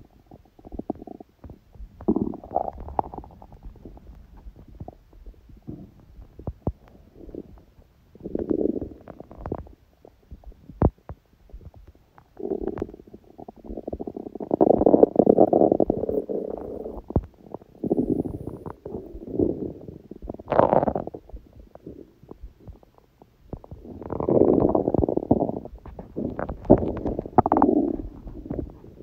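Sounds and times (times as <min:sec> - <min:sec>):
stomach growling and gurgling: 0:00.0 - 0:29.0.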